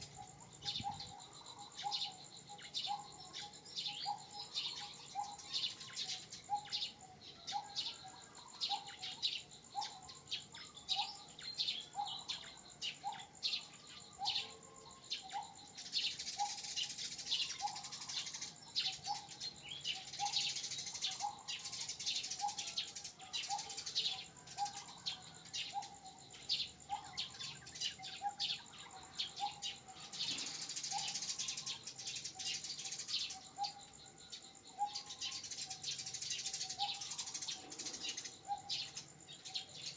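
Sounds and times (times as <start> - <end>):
high insect whine: 0.0 - 39.9.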